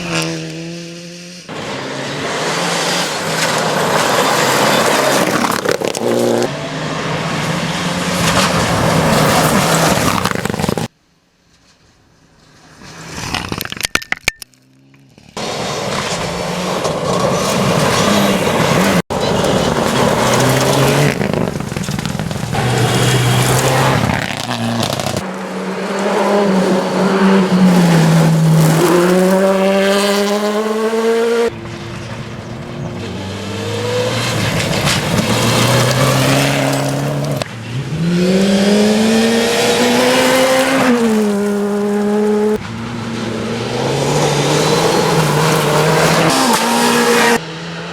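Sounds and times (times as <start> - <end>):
rally car engines revving: 0.0 - 10.9, 15.0 - 47.9.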